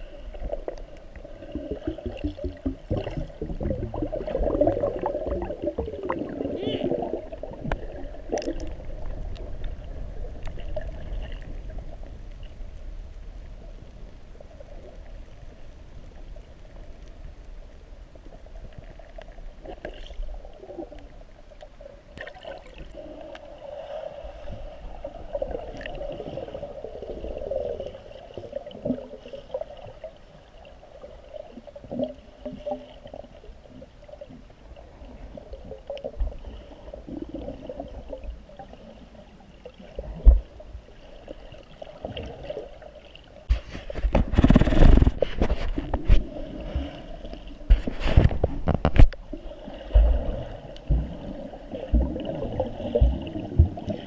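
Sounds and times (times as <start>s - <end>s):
water gurgling and bubbling: 0.0s - 12.3s, 22.2s - 54.0s.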